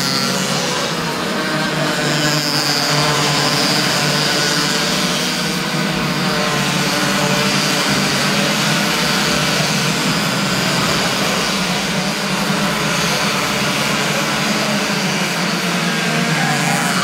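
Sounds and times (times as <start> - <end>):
racing kart engines droning: 0.0 - 17.0.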